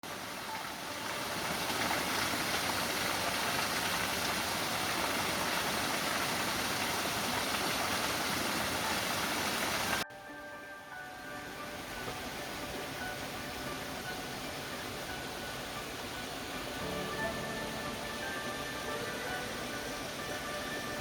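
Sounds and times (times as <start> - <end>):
river rushing over rocks: 0.0 - 10.0, 11.2 - 21.0.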